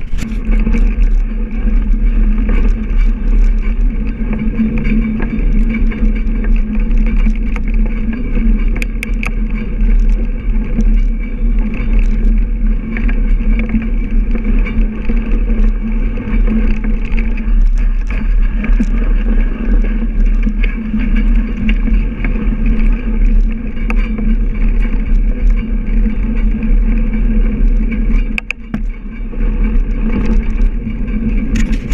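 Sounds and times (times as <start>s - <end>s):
bicycle clicks and rattles: 0.0s - 31.9s
bicycle tyres rumbling on snow: 0.0s - 31.9s
wind on microphone: 0.0s - 31.9s.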